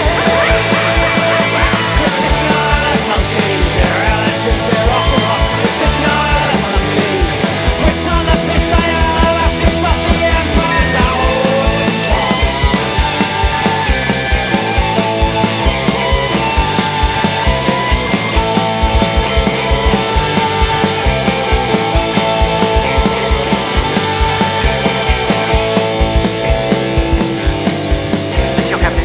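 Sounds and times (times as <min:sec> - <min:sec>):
punk rock band music: 0:00.0 - 0:29.0.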